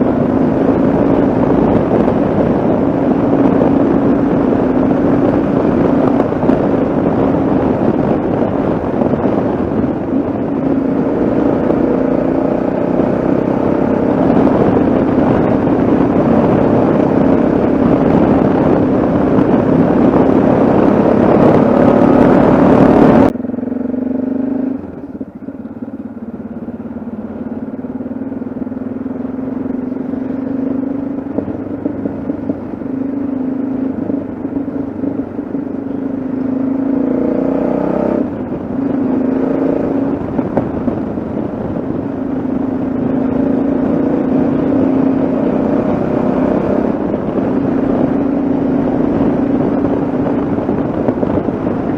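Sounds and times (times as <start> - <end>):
motorcycle engine cruising: 0.0 - 51.9
wind rush on microphone: 0.0 - 51.9.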